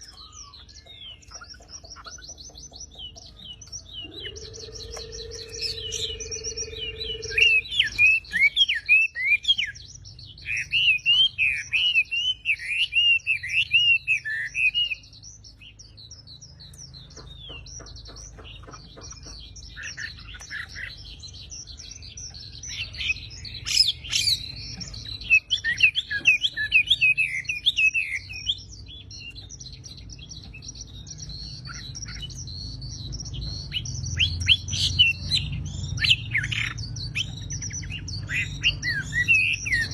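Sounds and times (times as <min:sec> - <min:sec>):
bird twittering: 0:00.0 - 0:39.9
songbird chirping rapidly: 0:00.0 - 0:39.9.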